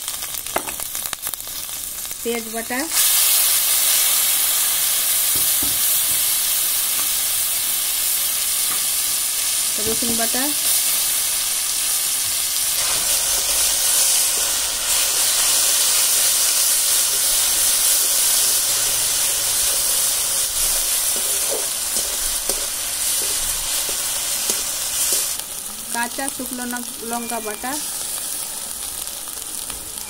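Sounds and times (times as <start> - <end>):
sizzling in hot oil: 0.0 - 30.0.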